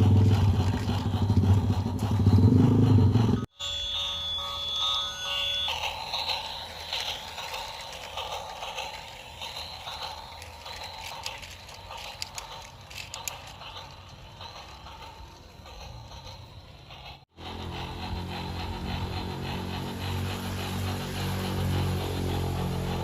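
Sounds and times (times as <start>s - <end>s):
small mechanism whirring: 0.0s - 23.0s.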